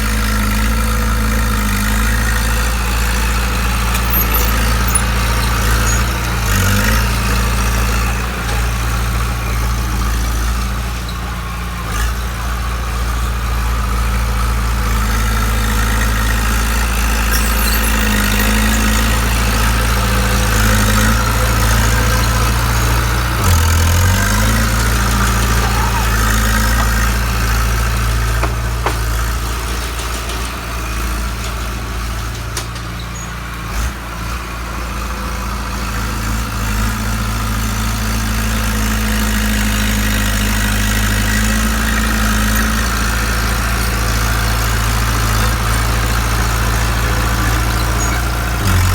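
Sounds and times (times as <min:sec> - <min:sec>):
bulldozer diesel engine idling: 0:00.0 - 0:48.9.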